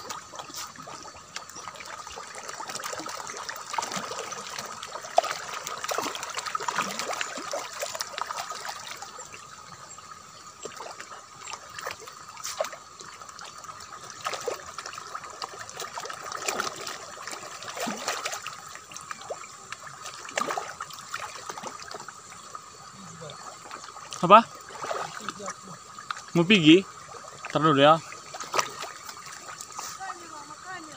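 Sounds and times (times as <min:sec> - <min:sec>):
fish splashing at water surface: 0:00.0 - 0:09.6, 0:10.5 - 0:30.8.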